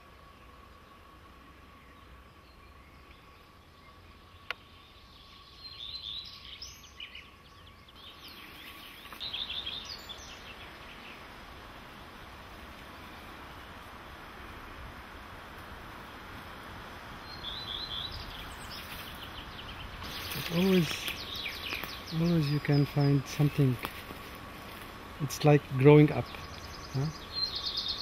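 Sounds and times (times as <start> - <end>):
faint outdoor hiss: 0.0 - 28.0
songbird chirping: 0.0 - 28.0.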